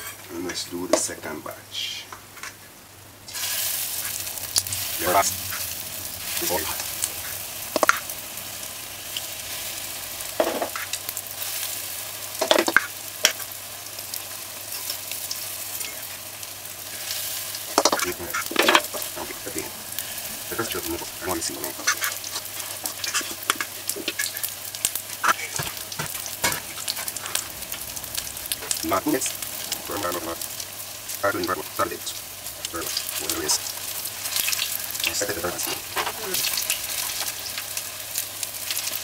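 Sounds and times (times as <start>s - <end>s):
batter sizzling in hot oil: 3.2s - 39.0s
sharp oil crackles: 3.2s - 39.0s.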